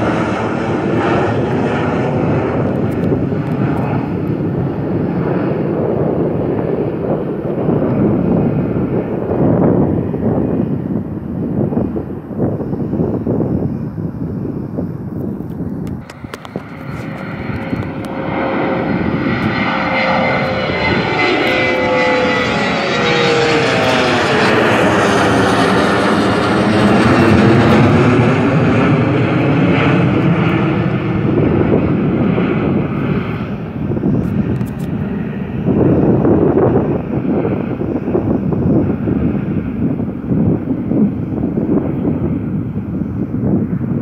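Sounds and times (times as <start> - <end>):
airliner climbing past: 0.0 - 44.0.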